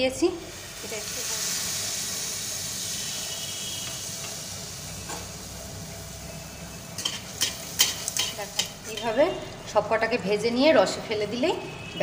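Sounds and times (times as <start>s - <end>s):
batter sizzling in hot oil: 0.0s - 9.9s.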